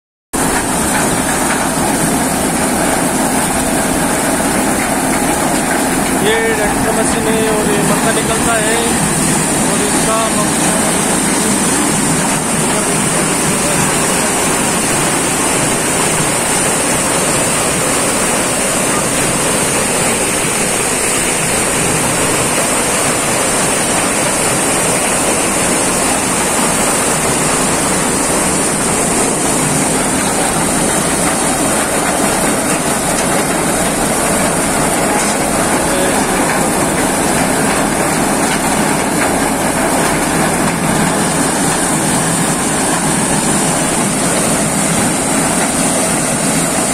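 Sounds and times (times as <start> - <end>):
thresher machine running: 0.4 - 46.9.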